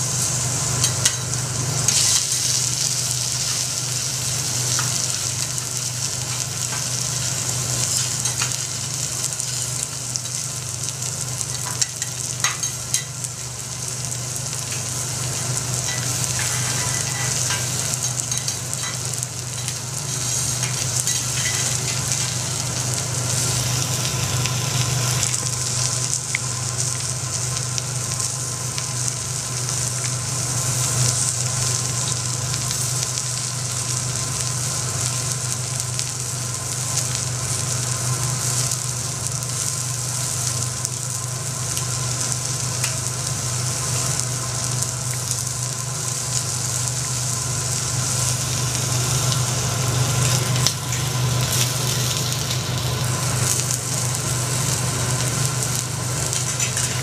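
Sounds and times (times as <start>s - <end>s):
food sizzling on a griddle: 0.0s - 57.0s.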